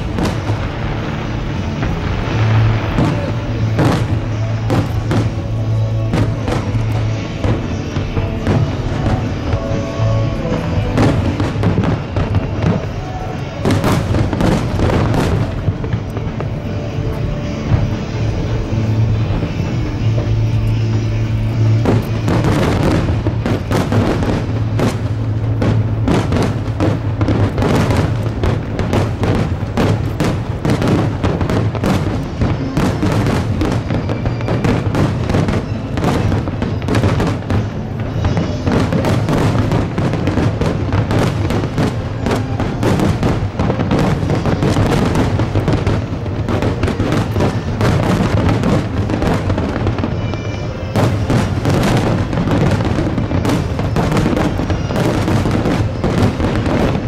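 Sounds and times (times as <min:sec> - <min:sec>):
fireworks bursting: 0:00.0 - 0:57.0
music playing: 0:00.0 - 0:57.0.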